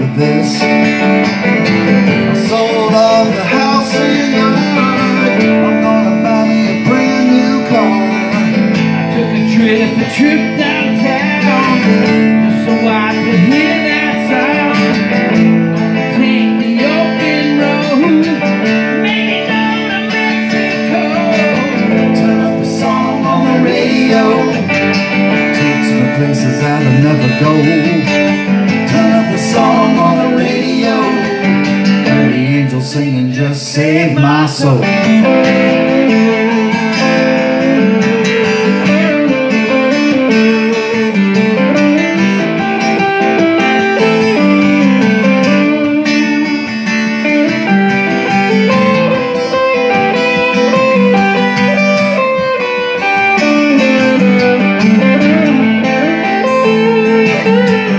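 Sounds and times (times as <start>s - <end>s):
electric guitar lead with bent notes: 0.0s - 57.9s
strummed acoustic guitar: 0.0s - 57.9s.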